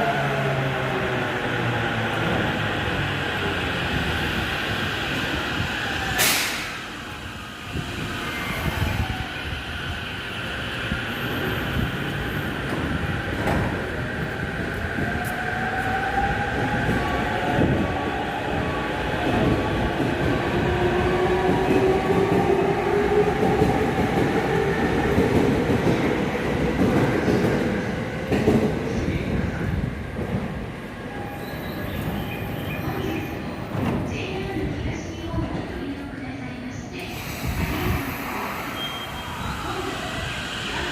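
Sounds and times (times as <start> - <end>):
rail noise: 0.0 - 40.9.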